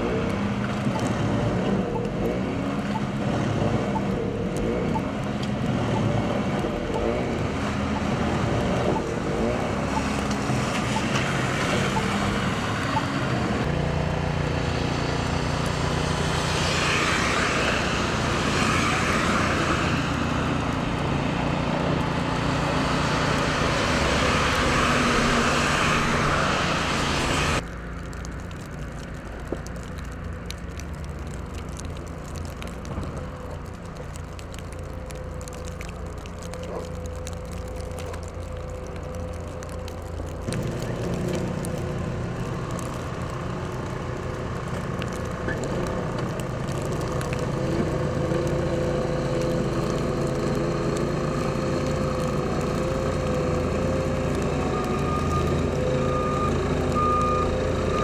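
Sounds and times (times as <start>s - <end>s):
street background: 0.0s - 58.0s
vehicles driving on snowy road: 0.0s - 58.0s.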